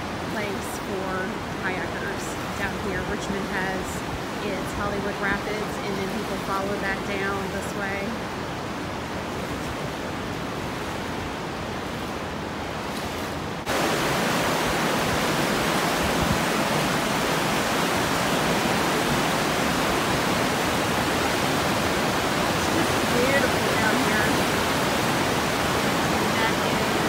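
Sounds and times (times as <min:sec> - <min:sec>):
river rapids roaring: 0:00.0 - 0:27.0.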